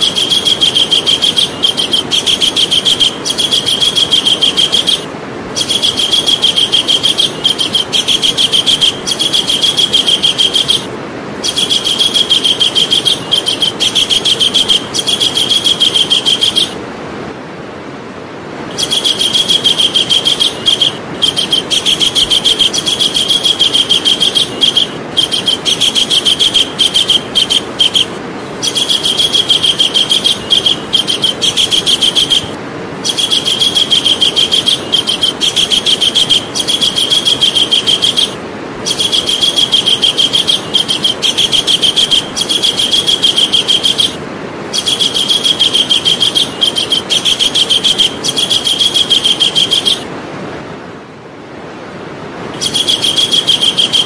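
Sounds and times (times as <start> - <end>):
kingfisher calling: 0.0 - 16.8, 18.7 - 50.1, 52.6 - 54.0
steady background hiss: 0.0 - 54.0.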